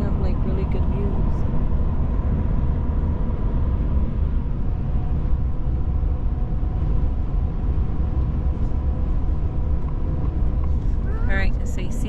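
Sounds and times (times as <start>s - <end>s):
faint steady whine: 0.0s - 12.0s
road and engine rumble in car: 0.0s - 12.0s.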